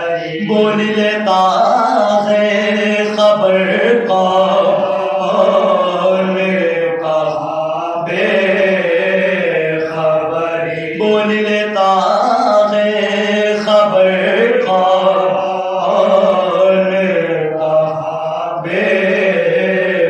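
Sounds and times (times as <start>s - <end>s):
man singing into microphone: 0.0s - 20.0s
men chanting together: 0.0s - 20.0s.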